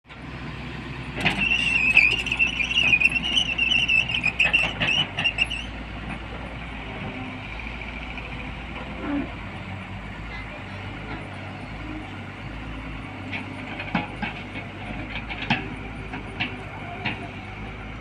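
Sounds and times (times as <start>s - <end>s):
excavator engine running: 0.1s - 18.0s.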